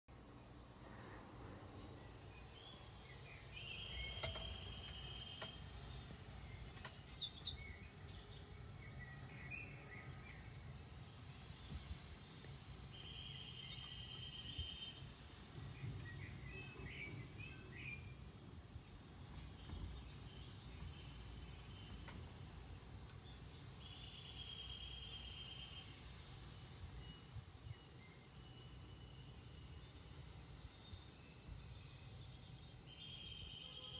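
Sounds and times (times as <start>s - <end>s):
birds singing: 0.1s - 33.9s.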